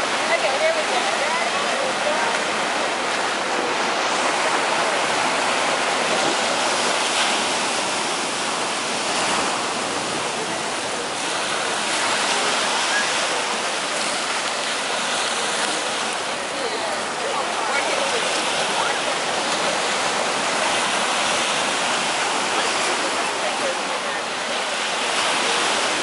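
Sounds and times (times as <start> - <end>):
surf breaking on beach: 0.0 - 26.0.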